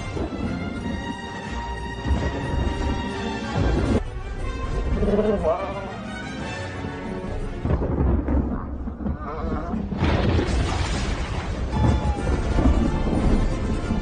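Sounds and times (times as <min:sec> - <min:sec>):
film score music: 0:00.0 - 0:14.0.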